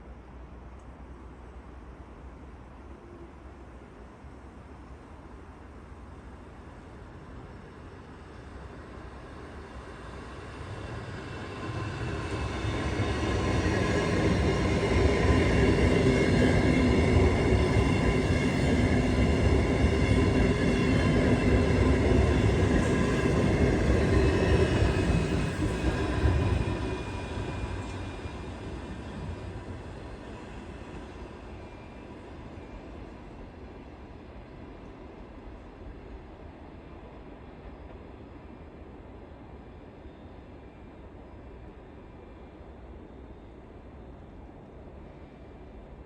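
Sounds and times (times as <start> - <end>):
electric train passing by: 2.2 - 46.0.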